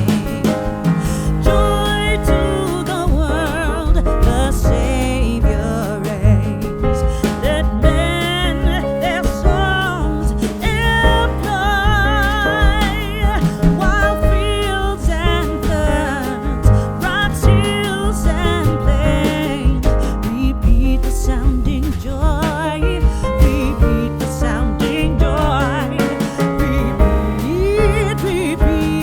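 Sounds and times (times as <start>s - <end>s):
bass and instruments: 0.0s - 29.0s
singer with vibrato: 0.0s - 29.0s.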